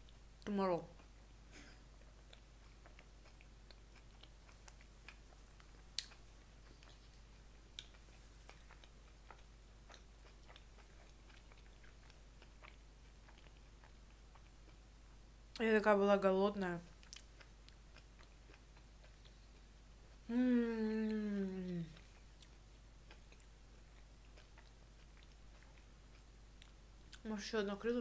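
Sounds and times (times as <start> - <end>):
low steady hum: 0.0 - 28.0
chewing food: 0.8 - 14.9, 16.8 - 20.3, 21.0 - 27.3.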